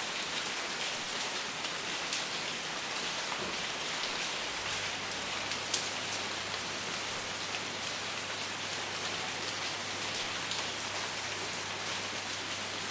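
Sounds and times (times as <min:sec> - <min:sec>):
rain on a hard surface: 0:00.0 - 0:12.9.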